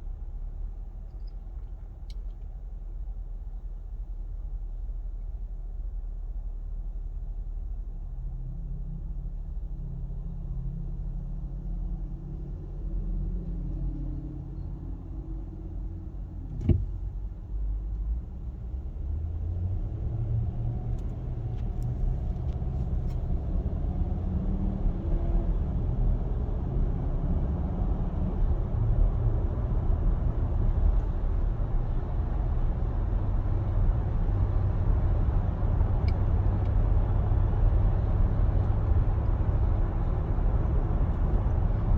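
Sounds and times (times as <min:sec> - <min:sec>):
engine rumbling: 0:00.0 - 0:41.9.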